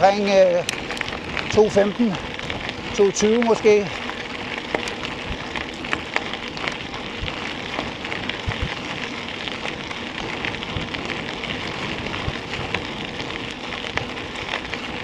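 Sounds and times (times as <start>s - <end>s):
bike tyres crunching on gravel: 0.0s - 15.0s
loose stones clicking: 0.0s - 15.0s.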